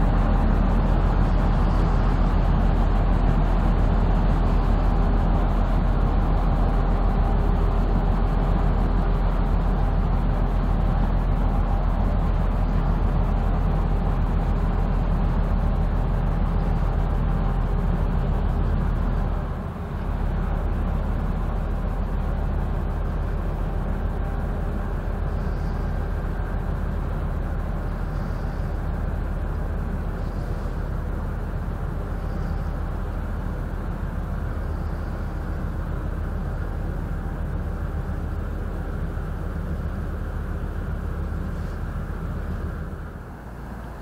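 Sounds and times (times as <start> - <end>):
diesel boat engine drone: 0.0 - 44.0.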